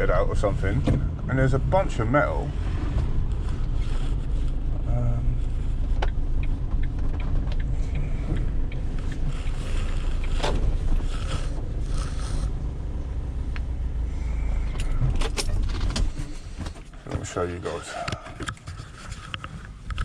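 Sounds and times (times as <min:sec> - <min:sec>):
light rattles and creaks: 0:00.0 - 0:20.0
van engine and road rumble: 0:00.0 - 0:20.0.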